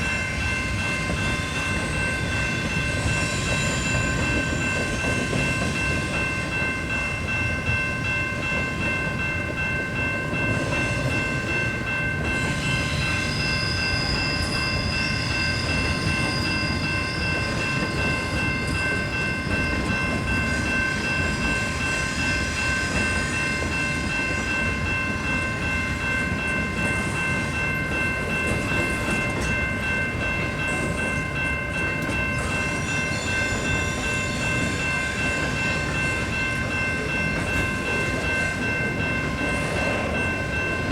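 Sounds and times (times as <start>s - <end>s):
train cars rumbling on rails: 0.0s - 40.9s.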